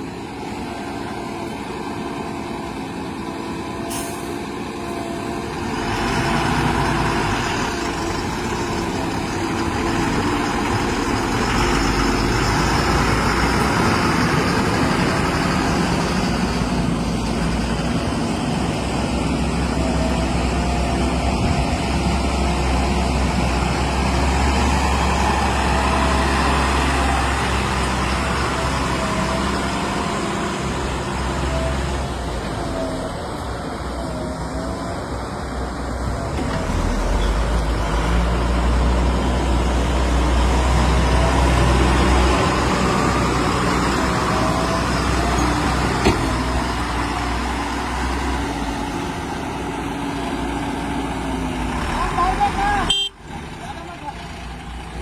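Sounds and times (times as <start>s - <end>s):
heavy diesel machinery engines: 0.0s - 55.0s
tipper truck running: 0.0s - 55.0s.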